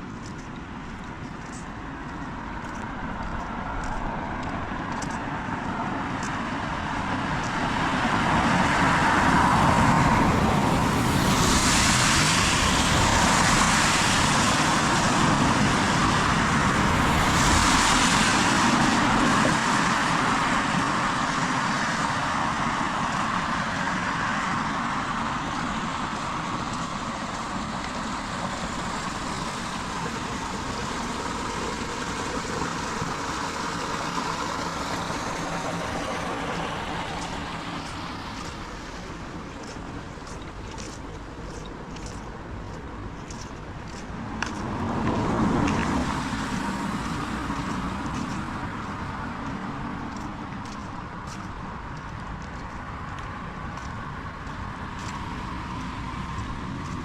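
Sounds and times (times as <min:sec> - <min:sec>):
car passing on wet road: 0:00.0 - 0:57.0
steady rain: 0:03.2 - 0:43.2, 0:44.3 - 0:57.0.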